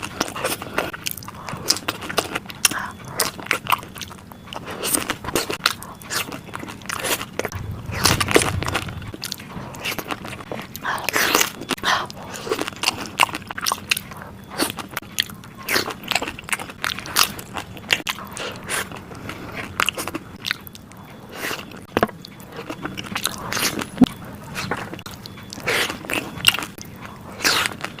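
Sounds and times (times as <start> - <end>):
crisp food crunching: 0.0 - 8.2, 9.0 - 28.0.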